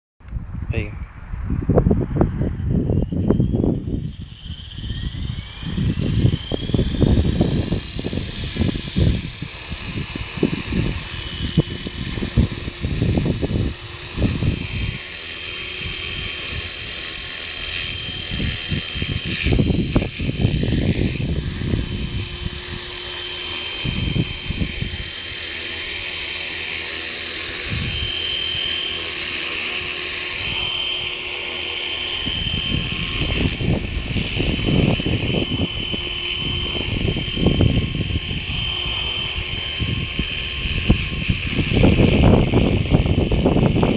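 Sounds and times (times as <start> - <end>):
wind buffeting microphone: 0.2 - 43.9
rc helicopter rotor whine: 1.5 - 43.9.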